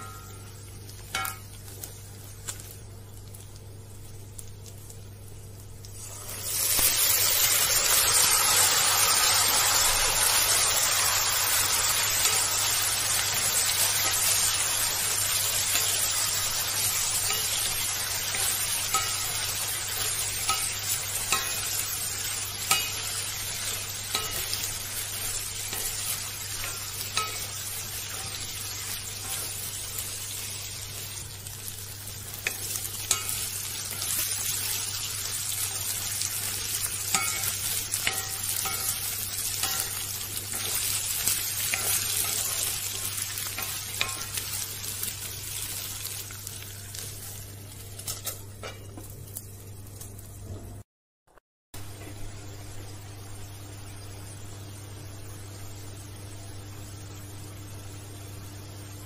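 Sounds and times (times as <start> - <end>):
food sizzling in oil: 0.0 - 50.8, 51.8 - 59.0.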